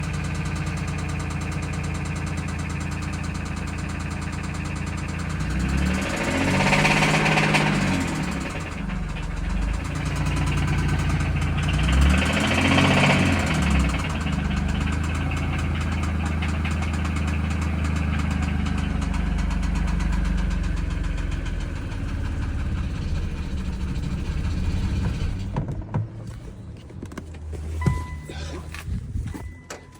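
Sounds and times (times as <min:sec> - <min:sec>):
engine knocking: 0:00.0 - 0:25.7
car engine idling and revving: 0:00.0 - 0:29.8.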